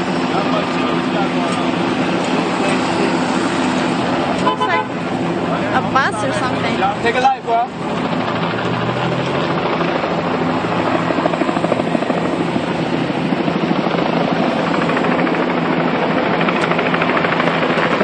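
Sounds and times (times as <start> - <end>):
helicopter rotor chop: 0.0 - 18.0.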